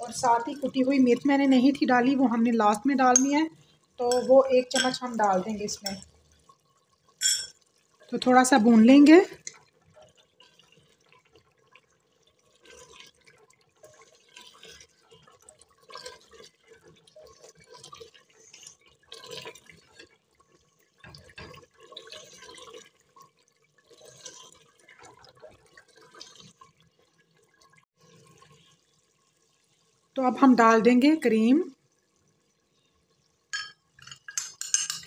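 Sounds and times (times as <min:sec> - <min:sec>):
faint sizzling and bubbling: 0:00.0 - 0:35.0.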